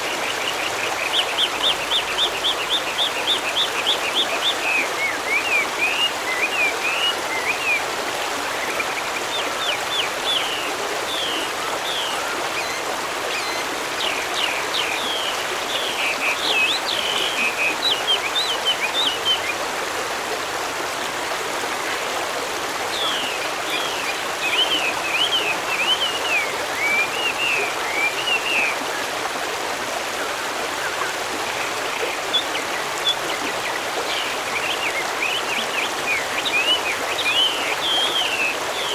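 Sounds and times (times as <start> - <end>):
small birds chirping: 0.0 - 19.6, 22.9 - 28.8, 30.9 - 38.9
stream babbling: 0.0 - 38.9.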